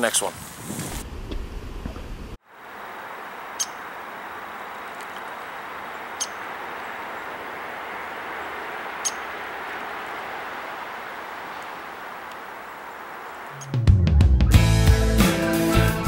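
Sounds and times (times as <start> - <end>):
steady background hiss: 0.0 - 13.9.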